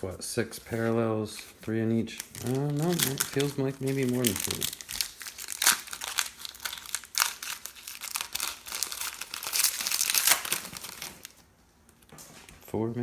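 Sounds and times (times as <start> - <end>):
wrapper crinkling and tearing: 0.7 - 11.4.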